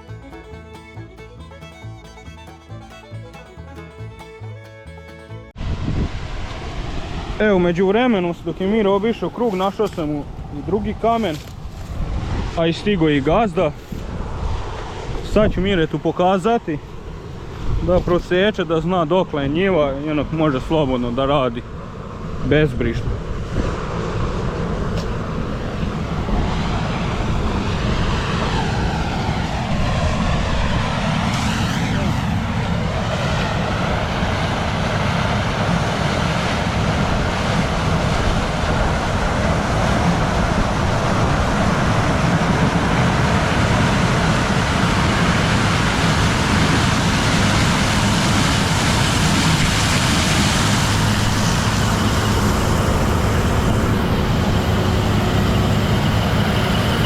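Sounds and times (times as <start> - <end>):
combine harvester drone: 0.0 - 57.0.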